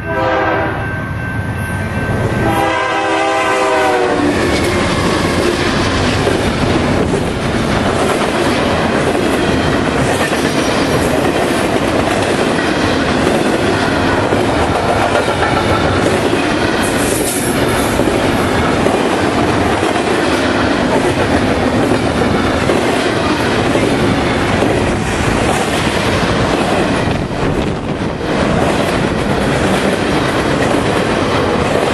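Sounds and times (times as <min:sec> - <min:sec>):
steel wheels rolling on rails: 0:04.2 - 0:31.9.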